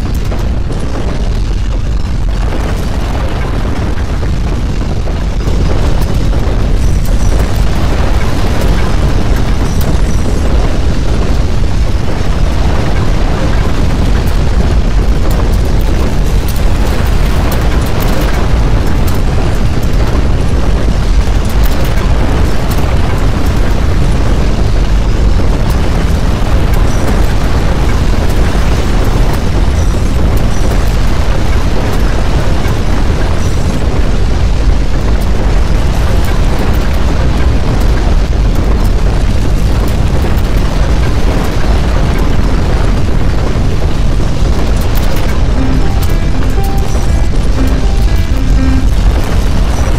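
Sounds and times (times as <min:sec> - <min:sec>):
earthquake rumble with hiss: 0:00.0 - 0:46.0.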